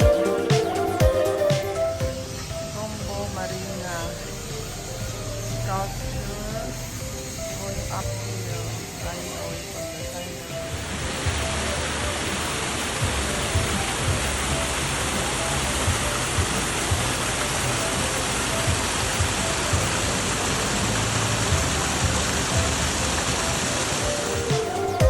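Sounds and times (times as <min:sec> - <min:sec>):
faint background music: 0:00.0 - 0:25.0
water rushing: 0:00.0 - 0:25.0.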